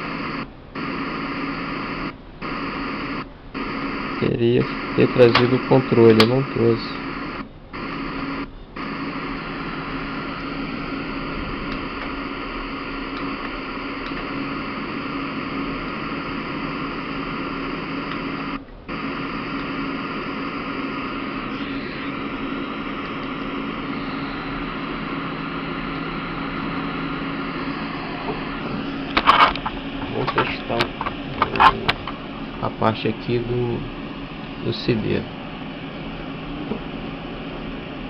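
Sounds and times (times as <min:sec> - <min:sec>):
radio static hiss: 0:00.0 - 0:38.0
steady low hum: 0:00.0 - 0:38.0.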